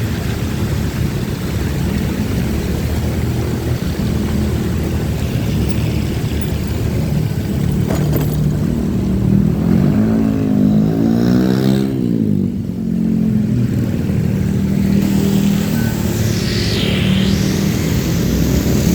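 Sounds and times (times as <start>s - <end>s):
motorcycle engine running: 0.0s - 9.8s, 11.7s - 18.9s
road and wind noise: 0.0s - 18.9s.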